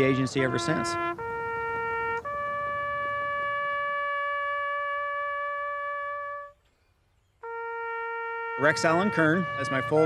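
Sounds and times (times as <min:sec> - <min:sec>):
brass instrument sustained notes: 0:00.0 - 0:06.6, 0:07.4 - 0:10.0.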